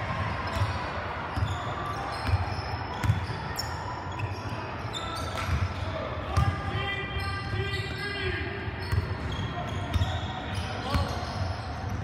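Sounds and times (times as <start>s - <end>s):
sneaker squeaks: 0.4s - 12.0s.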